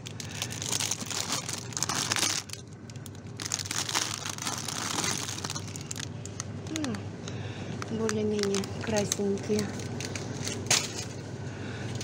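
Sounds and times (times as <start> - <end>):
plastic packaging crinkling: 0.0 - 7.0, 7.8 - 11.2.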